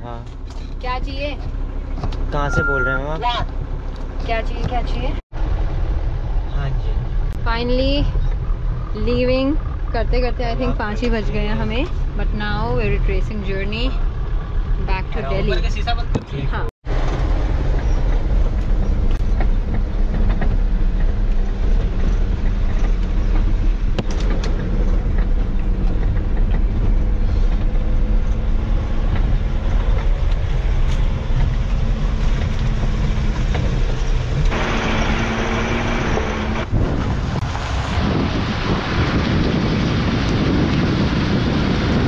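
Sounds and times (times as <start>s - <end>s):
engine and road rumble: 0.0s - 42.0s.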